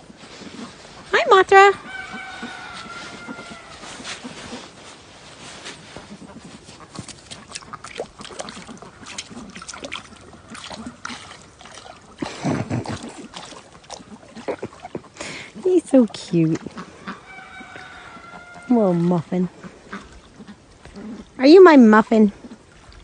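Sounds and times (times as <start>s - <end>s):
bird splashing in water: 0.7s - 4.7s, 5.7s - 23.0s.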